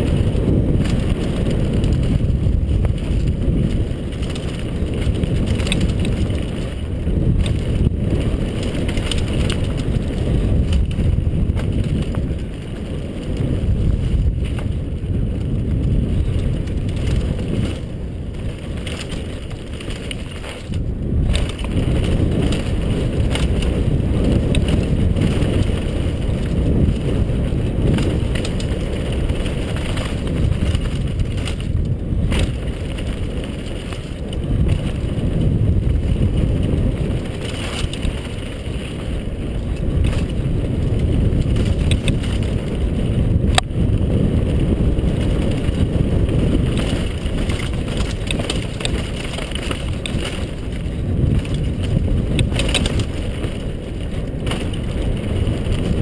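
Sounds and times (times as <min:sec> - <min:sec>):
bike tyres rumbling on dirt: 0:00.0 - 0:56.0
wind buffeting microphone: 0:00.0 - 0:56.0.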